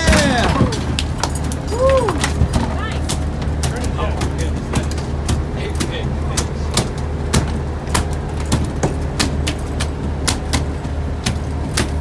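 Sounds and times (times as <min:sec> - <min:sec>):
boat engine humming: 0:00.0 - 0:12.0
sharp clicks and knocks: 0:00.0 - 0:12.0.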